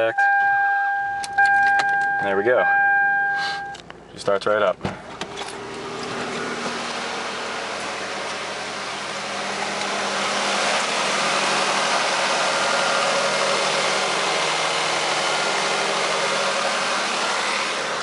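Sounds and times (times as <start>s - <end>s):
car engine idling: 1.1s - 18.0s.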